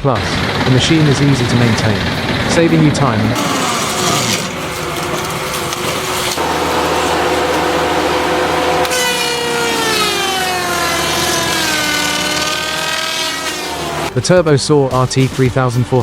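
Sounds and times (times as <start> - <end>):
wood grinder droning: 0.0 - 15.1.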